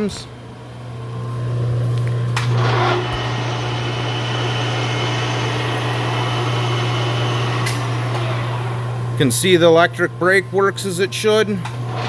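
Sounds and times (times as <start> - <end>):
lathe running with low hum: 0.0 - 12.0.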